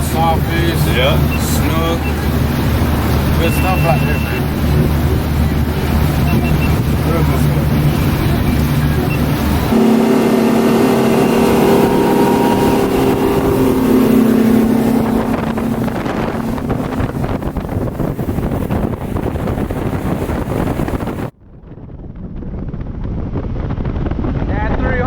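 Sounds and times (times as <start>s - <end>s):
outboard motor running: 0.0s - 21.3s
water rushing: 0.0s - 21.3s
wind rushing over microphone: 0.0s - 25.0s.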